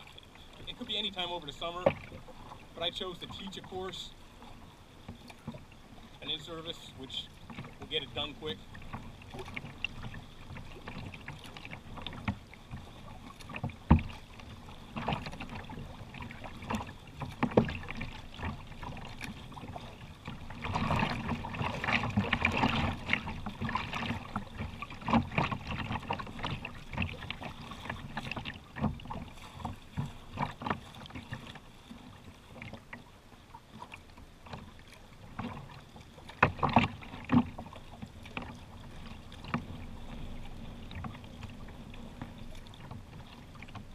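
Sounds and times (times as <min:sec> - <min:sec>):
paddle splashes: 0:00.0 - 0:43.9
water lapping against kayak hull: 0:00.0 - 0:43.9.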